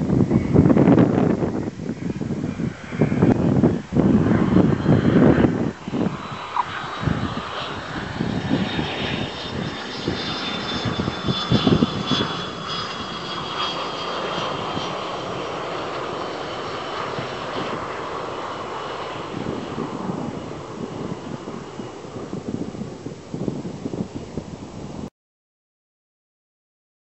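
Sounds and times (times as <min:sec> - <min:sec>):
jet engine whining: 0:00.0 - 0:25.0
wind buffeting microphone: 0:00.0 - 0:25.1.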